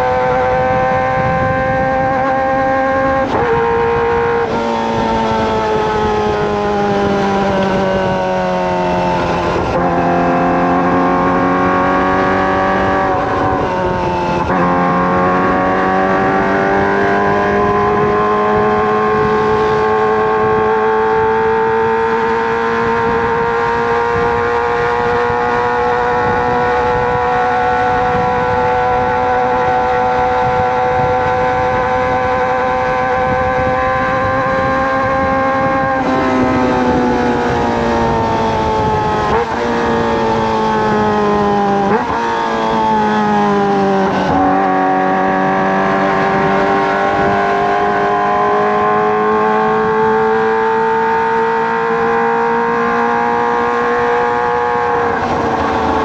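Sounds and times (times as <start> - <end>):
motorcycle engine at high revs: 0.0 - 56.0.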